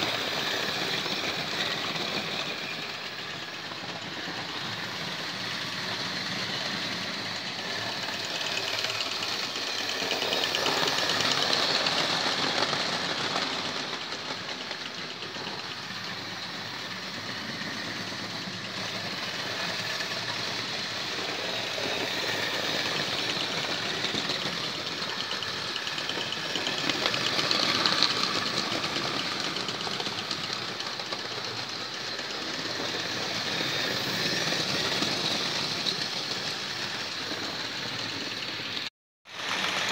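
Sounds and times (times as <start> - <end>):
model train motors whirring: 0.0 - 39.9.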